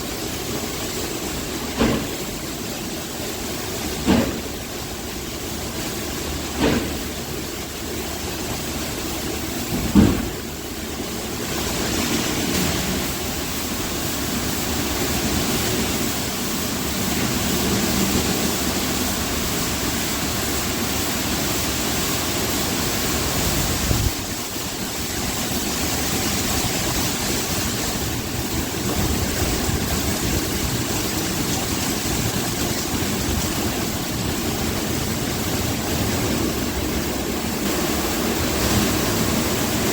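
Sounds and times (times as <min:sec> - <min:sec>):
water spray and machine motors: 0:00.0 - 0:39.9.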